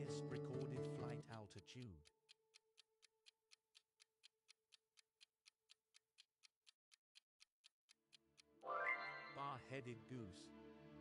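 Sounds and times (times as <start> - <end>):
timer clock ticking: 0.0 - 9.6.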